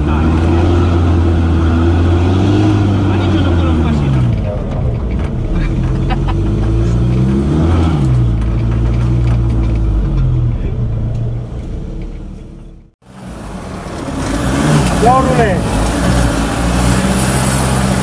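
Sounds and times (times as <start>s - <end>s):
another engine: 0.0s - 18.0s
off-road vehicle engine: 0.0s - 18.0s.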